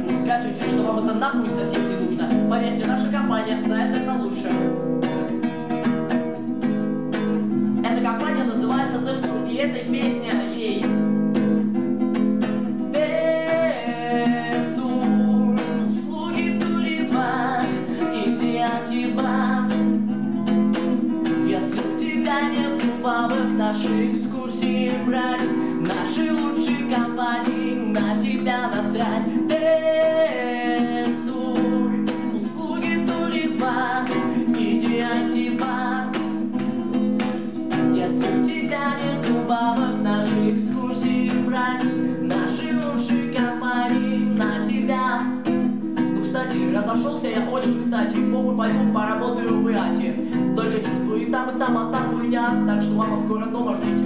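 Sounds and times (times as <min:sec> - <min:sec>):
man singing: 0:00.0 - 0:04.8, 0:07.6 - 0:11.5, 0:12.1 - 0:54.0
nylon-string guitar strumming: 0:00.0 - 0:54.0.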